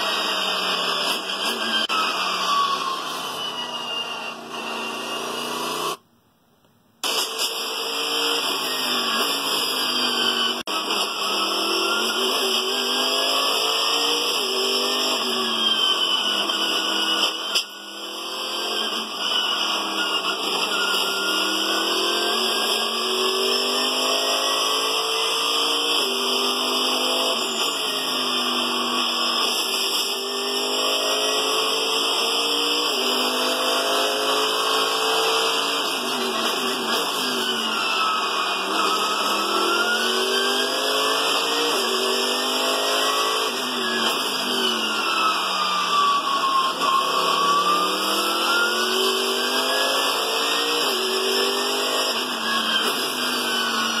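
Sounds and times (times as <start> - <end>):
race car engine accelerating: 7.0 - 54.0.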